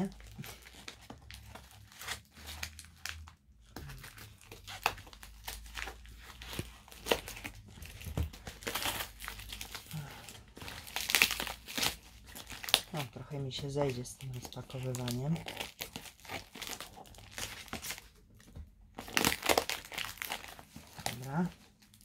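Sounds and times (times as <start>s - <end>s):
plastic wrap crinkling: 0.0s - 22.0s.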